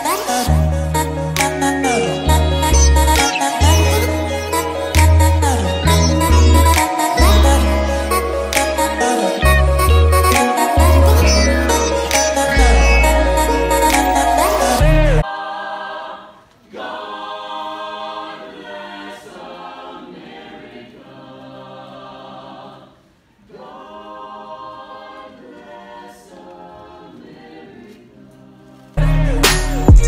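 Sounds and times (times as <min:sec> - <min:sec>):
a cappella ensemble singing: 0:00.0 - 0:30.0.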